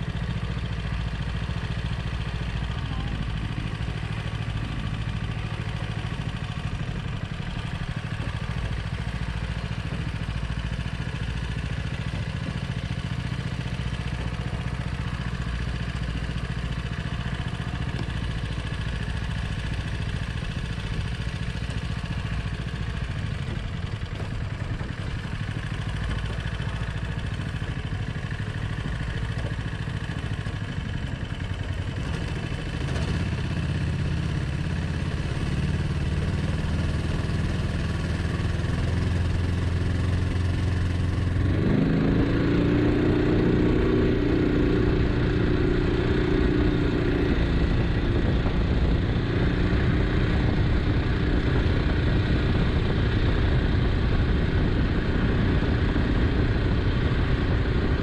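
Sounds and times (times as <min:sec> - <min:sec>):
boat motor running steadily: 0:00.0 - 0:58.0.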